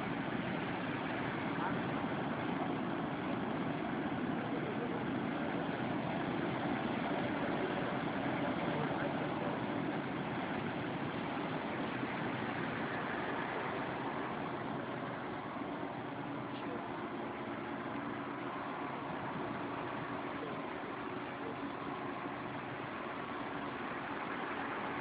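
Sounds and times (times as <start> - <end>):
ship engines droning: 0.0 - 25.0.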